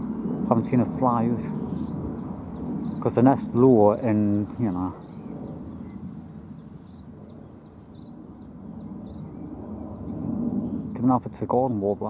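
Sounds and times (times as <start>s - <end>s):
warbler alarm call: 1.3s - 11.0s.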